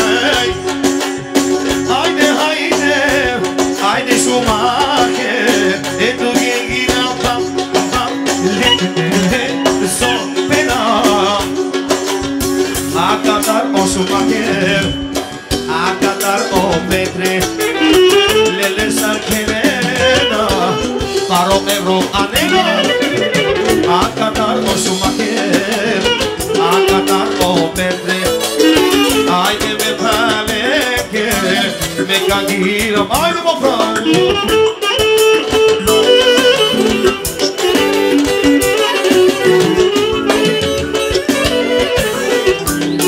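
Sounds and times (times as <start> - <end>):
clarinet melody: 0.0 - 43.0
drum kit: 0.0 - 43.0
live band playing dance music: 0.0 - 43.0.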